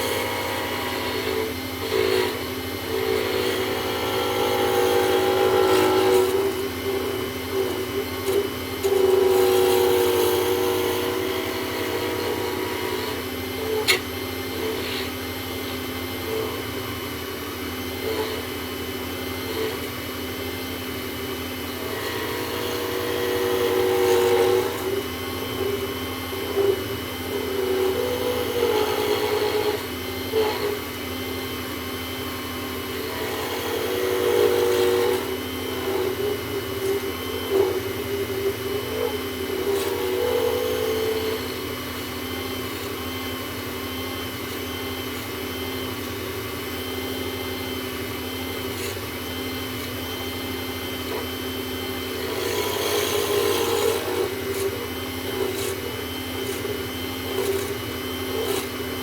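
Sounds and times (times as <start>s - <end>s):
lathe motor hum: 0.0s - 59.0s
tool cutting acrylic on lathe: 0.0s - 59.0s.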